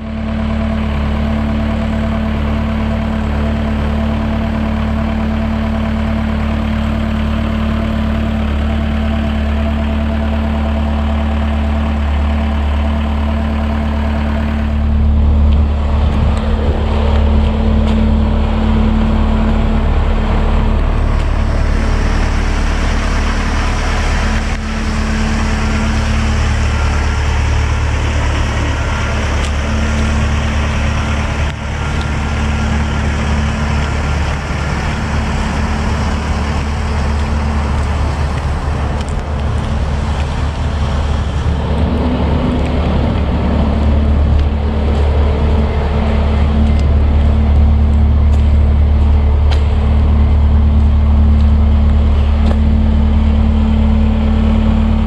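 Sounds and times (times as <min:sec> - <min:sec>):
boom lift engine running: 0:00.0 - 0:55.0.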